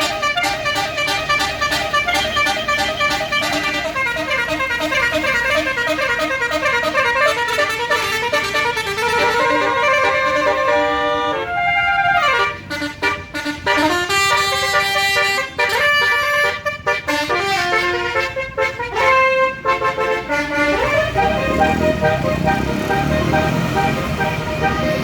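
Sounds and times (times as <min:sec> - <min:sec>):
bus horn playing a tune: 0:00.0 - 0:25.0.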